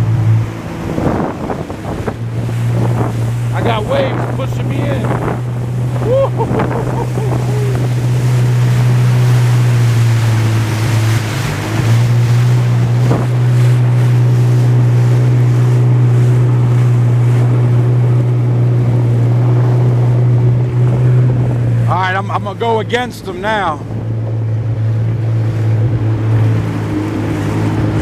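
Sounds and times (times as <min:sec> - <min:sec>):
jet ski engine running: 0:00.0 - 0:28.0
water on rough sea: 0:00.0 - 0:28.0
wind: 0:00.0 - 0:28.0.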